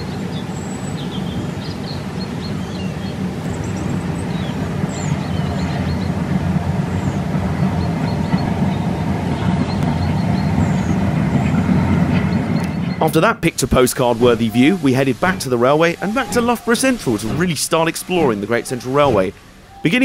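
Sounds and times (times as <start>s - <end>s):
distant steam train rumble: 0.0s - 20.0s.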